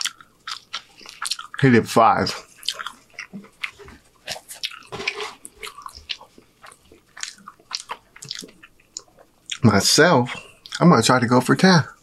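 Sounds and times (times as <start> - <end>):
person chewing food: 0.0 - 9.7, 10.3 - 10.9.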